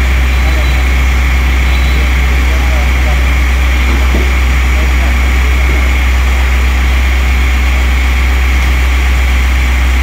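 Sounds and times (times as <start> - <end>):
faint high whine: 0.0 - 10.0
machinery droning: 0.0 - 10.0.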